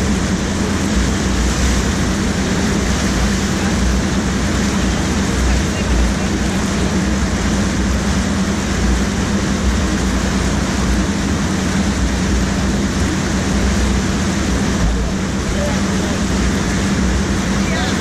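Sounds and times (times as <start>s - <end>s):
churning water rushing: 0.0s - 18.0s
constant low hum: 0.0s - 18.0s.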